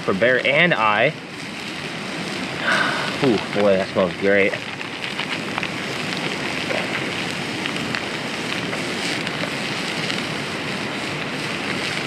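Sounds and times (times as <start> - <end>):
meat frying in oil: 0.0 - 12.0
rain: 0.0 - 12.0
wind: 0.0 - 12.0.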